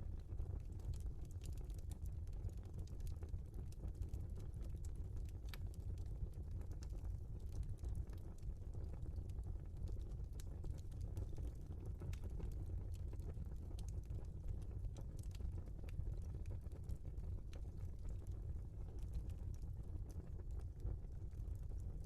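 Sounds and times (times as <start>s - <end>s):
fire crackling and popping: 0.0s - 22.0s
fire low rumble: 0.0s - 22.0s.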